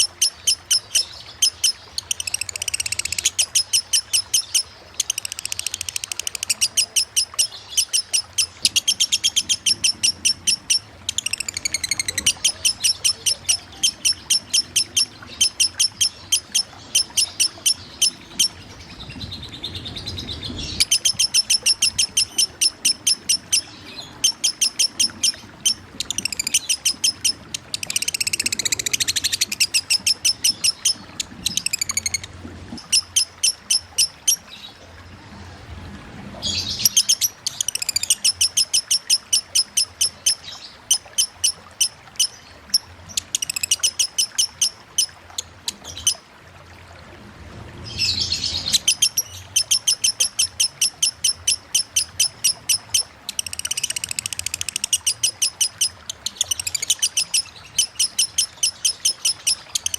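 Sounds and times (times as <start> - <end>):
lovebird chattering: 0.0 - 18.7, 20.4 - 34.4, 36.6 - 46.2, 48.0 - 59.9
faint running water: 0.0 - 59.9.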